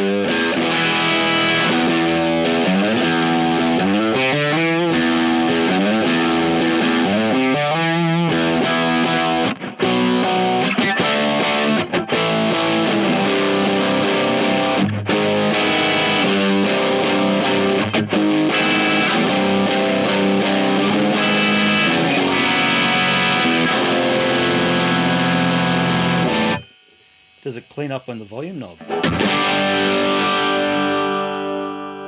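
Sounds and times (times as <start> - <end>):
overdriven electric guitar chords: 0.0 - 32.0.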